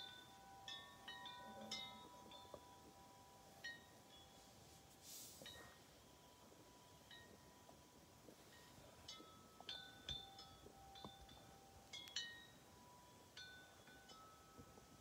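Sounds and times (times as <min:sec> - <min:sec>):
wind chime tinkling: 0:00.0 - 0:15.0.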